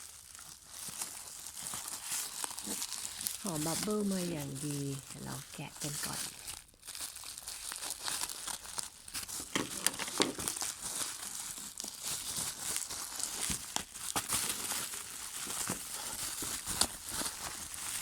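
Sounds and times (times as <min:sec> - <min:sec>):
bubble wrap crinkling: 0:00.0 - 0:18.0
bubble wrap tearing: 0:00.0 - 0:18.0.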